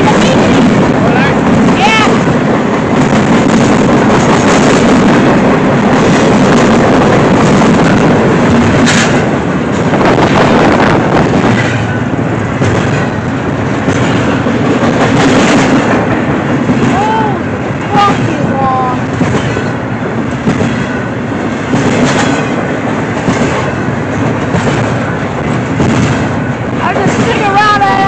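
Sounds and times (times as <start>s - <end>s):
freight train cars rolling past: 0.0s - 28.0s.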